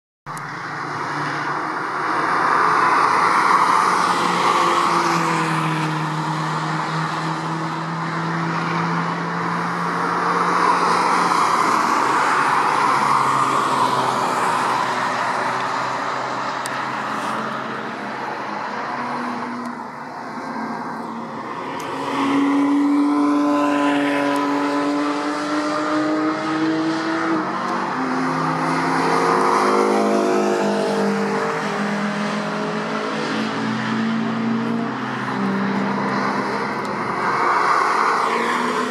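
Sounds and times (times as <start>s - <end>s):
race cars driving past: 0.3s - 38.9s
road and tyre noise: 0.3s - 38.9s.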